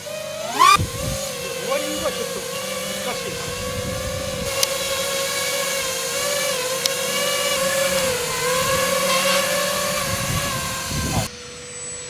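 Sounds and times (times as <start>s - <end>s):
model aircraft engine whine: 0.0s - 12.0s.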